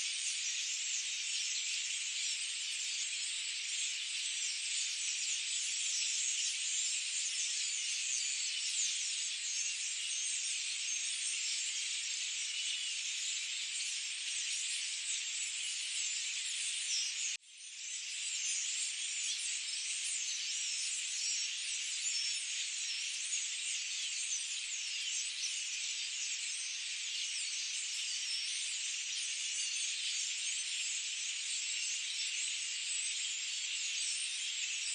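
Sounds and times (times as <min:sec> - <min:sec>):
forest bird chorus: 0:00.0 - 0:34.9.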